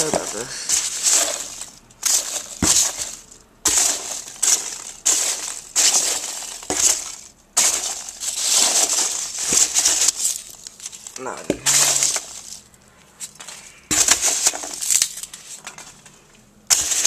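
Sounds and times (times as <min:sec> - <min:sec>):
packing material crinkling: 0:00.0 - 0:17.0.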